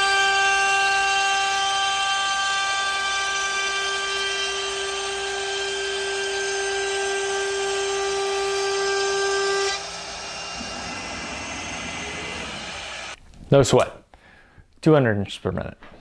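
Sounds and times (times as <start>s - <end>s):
bit cutting plywood: 0.0s - 13.2s
router spindle high whine: 0.0s - 13.2s.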